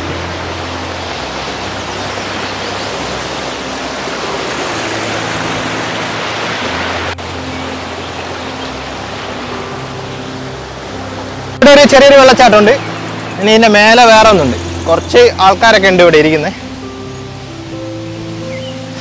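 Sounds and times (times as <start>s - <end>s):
water rushing over waterfall: 0.0s - 19.0s.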